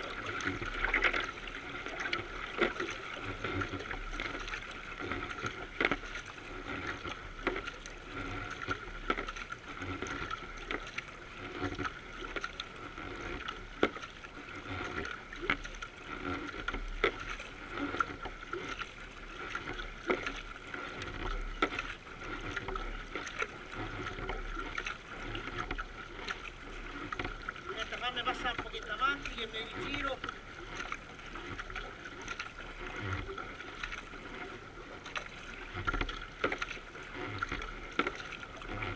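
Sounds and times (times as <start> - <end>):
paddle stroke splashes: 0.0 - 38.9
water rushing along kayak bow: 0.0 - 38.9.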